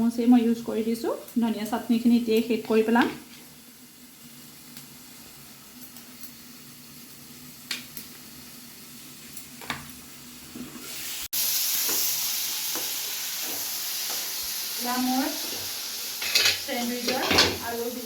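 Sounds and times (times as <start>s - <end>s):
filling sizzling in a pan: 0.0s - 18.0s.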